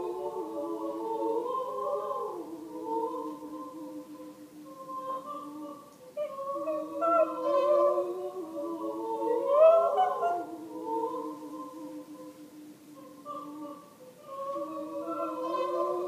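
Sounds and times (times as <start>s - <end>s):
woman singing wordlessly: 0.0s - 16.0s.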